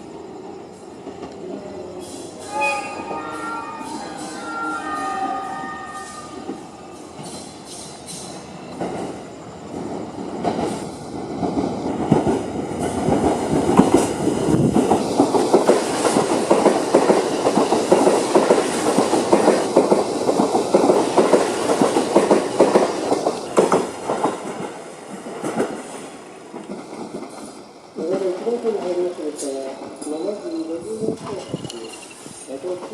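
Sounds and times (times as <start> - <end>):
electric train passing: 0.0 - 32.9.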